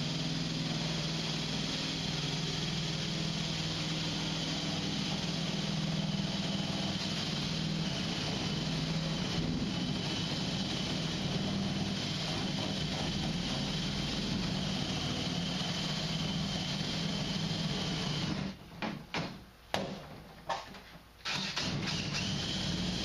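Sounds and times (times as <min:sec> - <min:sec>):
machine droning: 0:00.0 - 0:18.6.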